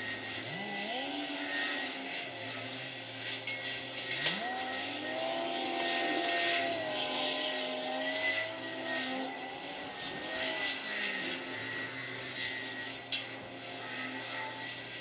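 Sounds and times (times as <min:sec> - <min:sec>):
heavy diesel machinery working: 0:00.0 - 0:15.0
steady high whine: 0:00.0 - 0:15.0.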